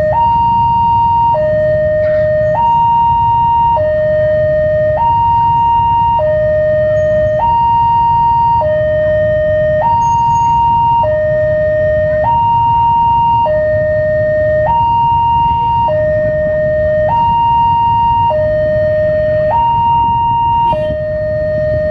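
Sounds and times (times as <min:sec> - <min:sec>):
two-tone crossing alarm: 0:00.0 - 0:21.9.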